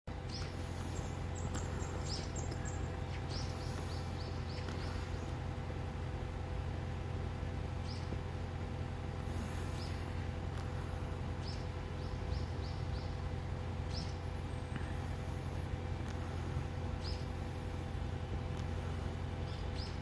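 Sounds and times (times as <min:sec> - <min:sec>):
low outdoor rumble: 0:00.1 - 0:20.0
small birds chirping: 0:00.1 - 0:20.0.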